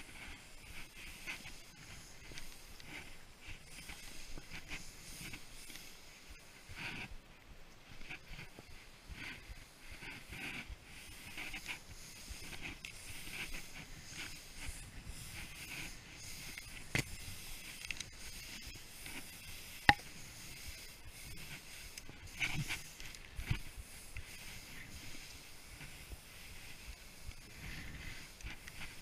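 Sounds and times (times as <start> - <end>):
skis scraping over snow: 0.0 - 7.1, 7.7 - 29.0.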